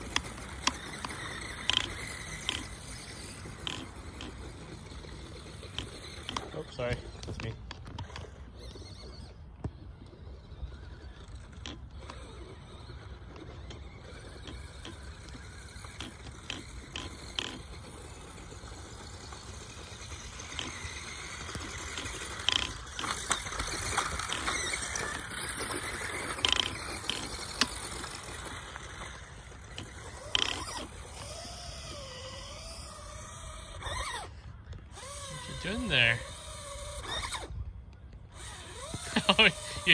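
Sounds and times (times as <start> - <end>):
toy cars clattering on landing: 0.0 - 9.3, 10.0 - 37.5
toy car electric motors whining: 0.0 - 39.9.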